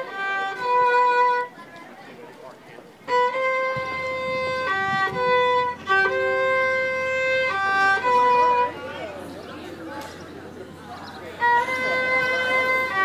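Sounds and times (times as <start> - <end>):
solo violin slow bowed notes: 0.0 - 1.7, 3.0 - 9.4, 10.6 - 13.0.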